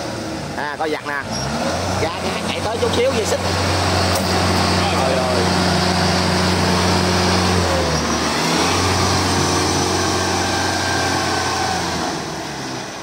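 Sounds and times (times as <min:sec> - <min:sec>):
diesel engines running hard: 0:00.0 - 0:13.0.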